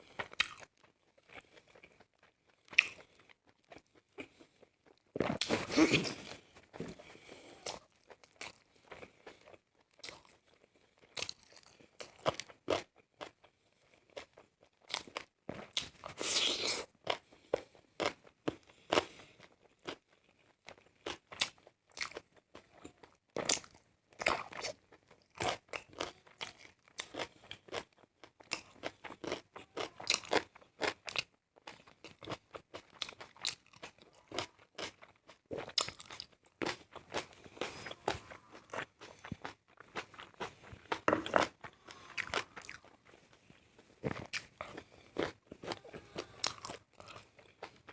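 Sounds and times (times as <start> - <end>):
person crunching and chewing: 0.0 - 47.9.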